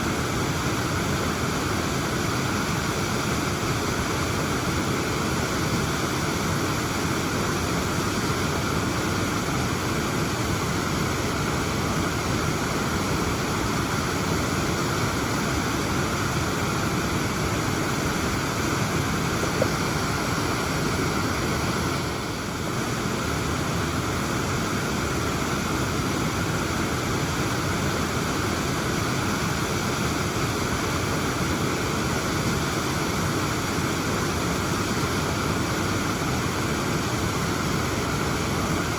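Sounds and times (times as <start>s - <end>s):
waterfall pouring: 0.1s - 38.9s.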